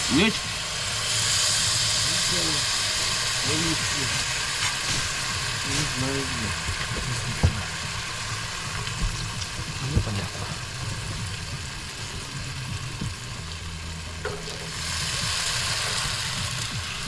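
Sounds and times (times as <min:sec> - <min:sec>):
pancakes sizzling in a frying pan: 0:00.0 - 0:17.0.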